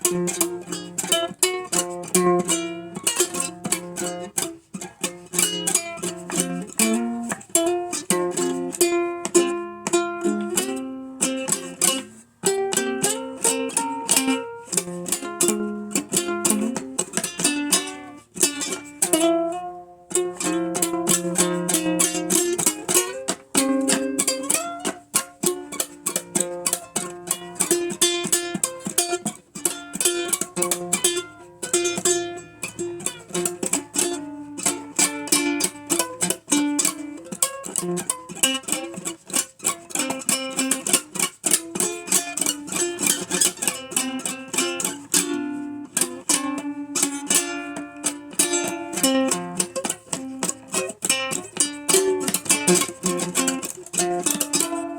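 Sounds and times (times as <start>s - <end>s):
ukulele blues picking: 0.0s - 54.9s.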